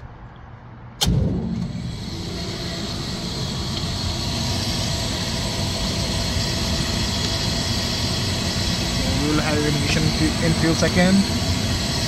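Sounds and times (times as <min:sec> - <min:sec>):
inducer motor running: 0:01.0 - 0:12.0.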